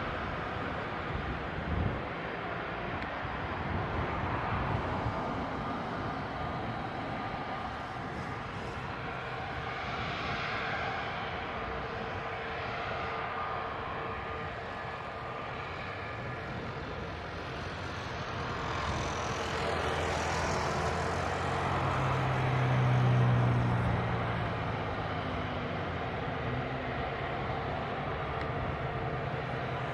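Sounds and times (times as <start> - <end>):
jet engines rushing: 0.0 - 29.9.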